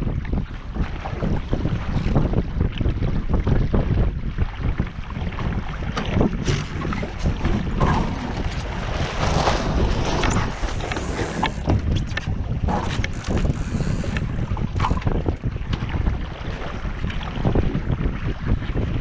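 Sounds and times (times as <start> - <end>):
water splashing along hull: 0.0 - 19.0
wind buffeting microphone: 0.0 - 19.0.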